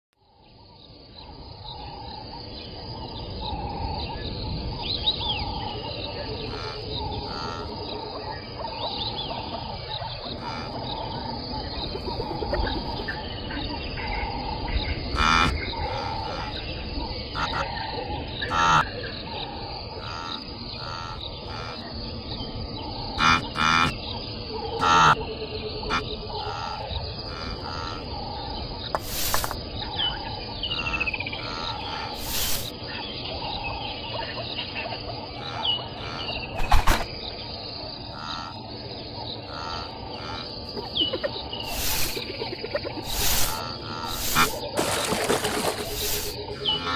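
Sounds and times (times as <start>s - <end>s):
birds: 0.2s - 46.9s
insects: 0.2s - 46.9s.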